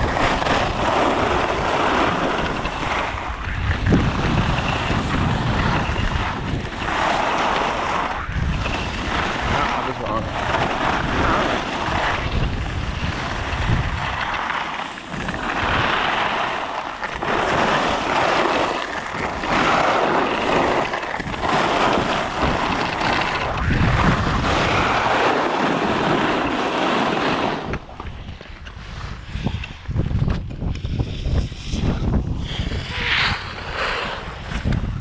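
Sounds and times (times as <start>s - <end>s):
skis scraping on snow: 0.0s - 35.0s
wind rushing over microphone: 0.0s - 35.0s.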